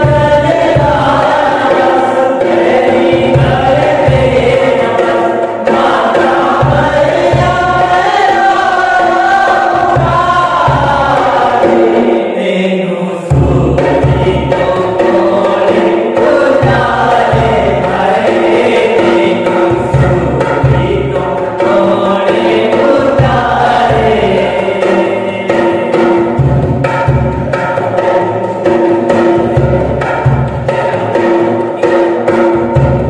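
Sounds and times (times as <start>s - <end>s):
hand drums: 0.0s - 12.5s, 13.2s - 33.0s
men singing together: 0.0s - 27.0s, 28.0s - 33.0s.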